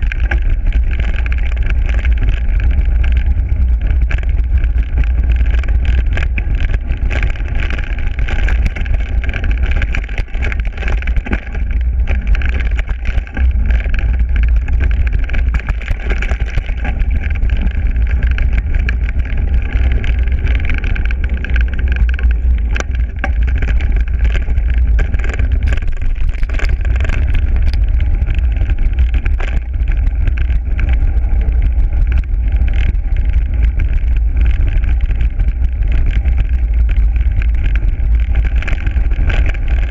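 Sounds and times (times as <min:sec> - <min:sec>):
bike clicks and rattles: 0:00.0 - 0:39.9
tyre rumble on dirt trail: 0:00.0 - 0:39.9
wind buffeting microphone: 0:00.0 - 0:39.9.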